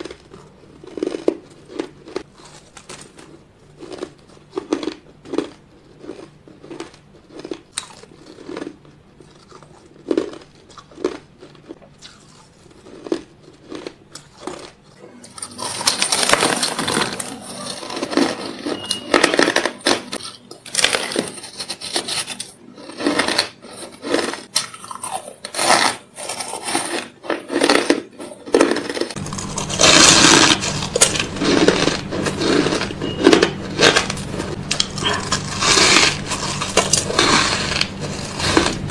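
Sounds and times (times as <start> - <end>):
ice crunched between teeth: 0.0 - 38.9.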